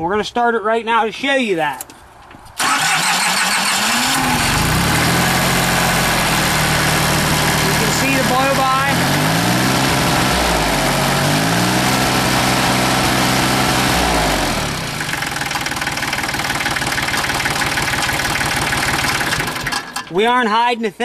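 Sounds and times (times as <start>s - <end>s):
tractor diesel engine running: 2.6s - 20.4s.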